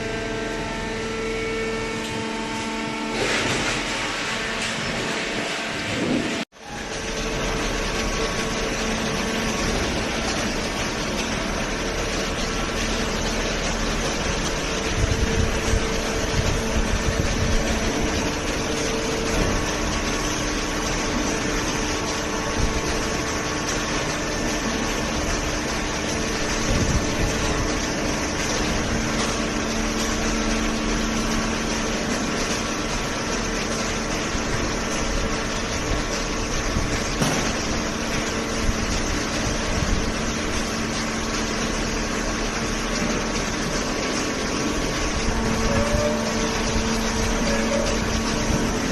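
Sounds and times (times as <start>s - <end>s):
baler motor humming: 0.0s - 48.9s.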